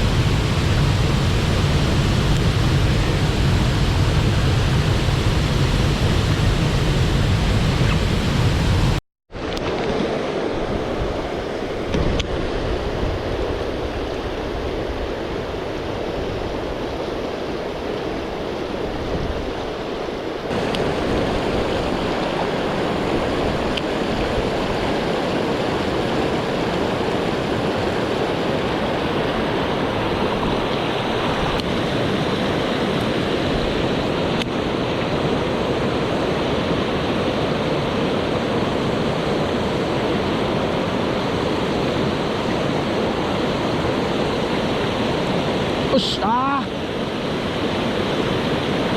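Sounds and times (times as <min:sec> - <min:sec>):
mountain stream rushing: 0:00.0 - 0:48.9.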